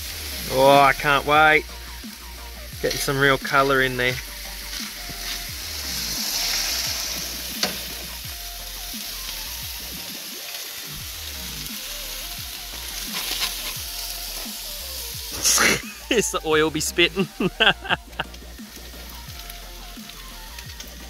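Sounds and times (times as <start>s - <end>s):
food sizzling in hot oil: 0.0s - 21.0s
oil popping and spitting: 2.1s - 16.4s, 17.0s - 21.0s.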